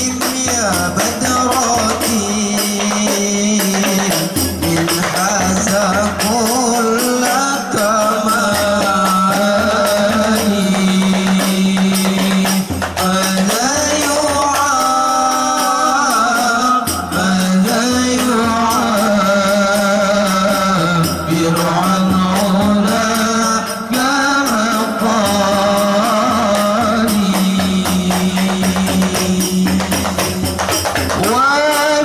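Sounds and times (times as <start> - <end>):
hand-struck frame drums: 0.0 - 32.0
men singing devotional song: 0.0 - 32.0.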